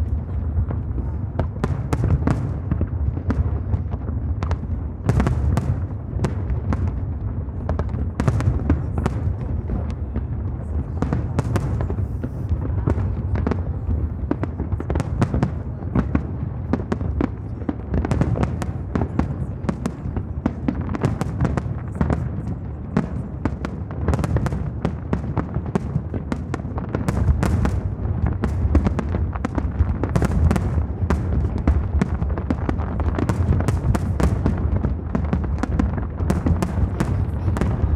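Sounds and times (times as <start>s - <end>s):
fireworks bursting: 0.0s - 37.9s.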